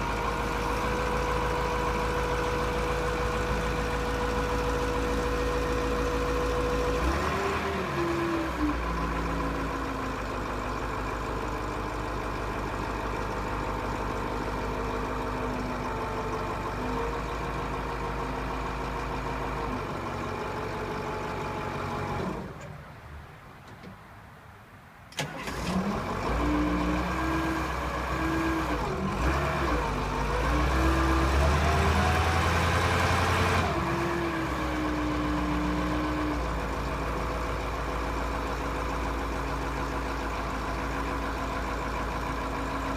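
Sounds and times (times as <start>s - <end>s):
forklift diesel engine running: 0.0s - 22.7s, 25.2s - 42.9s.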